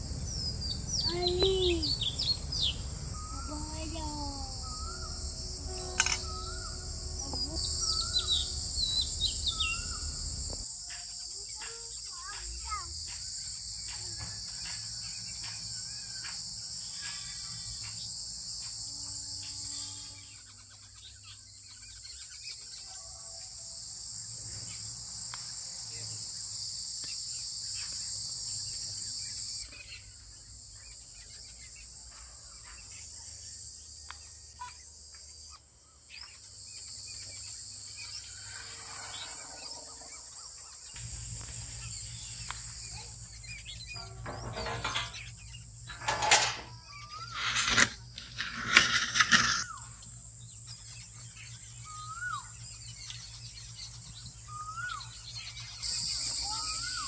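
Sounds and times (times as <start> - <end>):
insect chorus shrill: 0.2 - 57.0.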